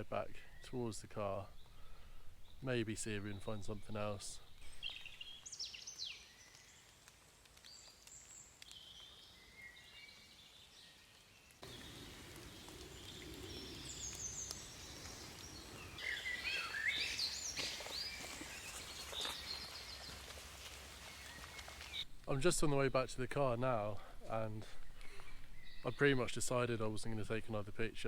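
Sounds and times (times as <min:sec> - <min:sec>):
songbirds chirping and trilling: 0:00.0 - 0:22.1, 0:24.8 - 0:27.3.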